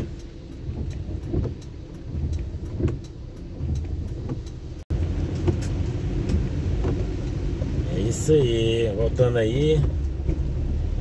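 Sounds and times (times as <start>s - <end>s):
light ticks: 0.0s - 10.6s
car engine and tyres on wet road: 0.0s - 11.0s.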